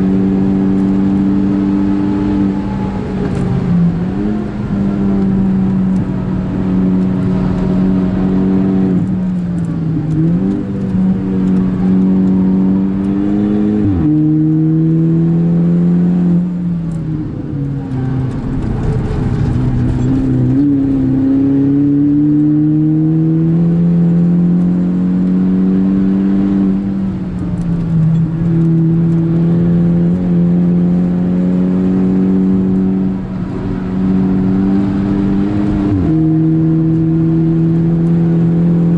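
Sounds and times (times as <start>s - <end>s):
car engine at high revs: 0.0s - 38.9s.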